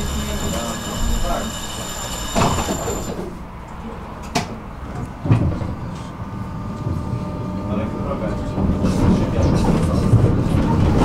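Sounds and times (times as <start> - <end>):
tram running on rails: 0.0 - 11.0.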